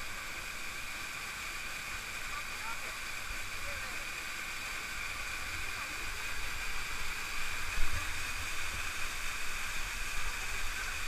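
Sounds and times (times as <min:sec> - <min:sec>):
waterfall pouring onto rocks: 0:00.0 - 0:11.0.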